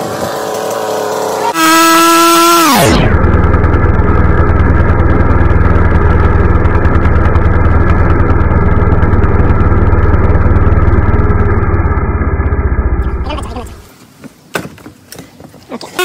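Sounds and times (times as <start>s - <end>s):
chainsaw engine idling: 0.0s - 13.8s.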